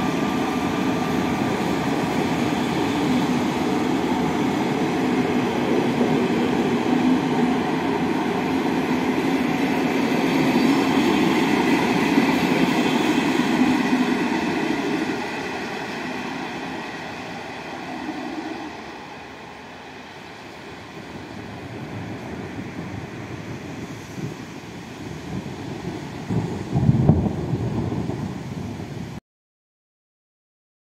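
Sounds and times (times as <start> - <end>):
train wheels rumbling on rails: 0.0 - 29.2.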